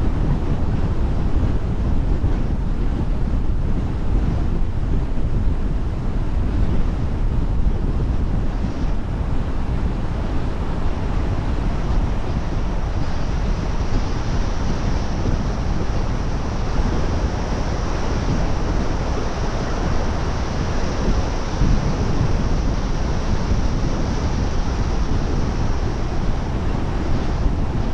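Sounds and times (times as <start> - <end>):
wind noise: 0.0 - 27.9.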